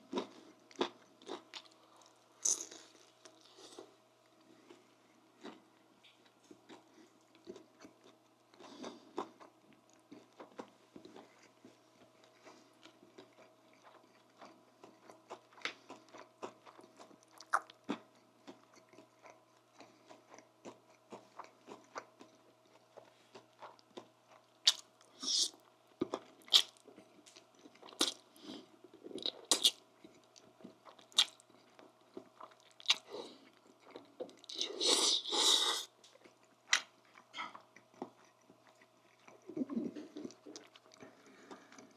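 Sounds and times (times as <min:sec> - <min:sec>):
soft chewing and lip smacking: 0:00.0 - 0:41.9.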